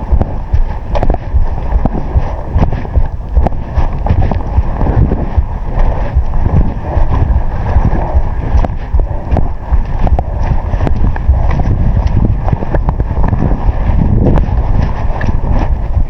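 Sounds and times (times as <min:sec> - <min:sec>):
wind buffeting microphone: 0:00.0 - 0:16.0
sharp clicks and knocks: 0:00.1 - 0:16.0.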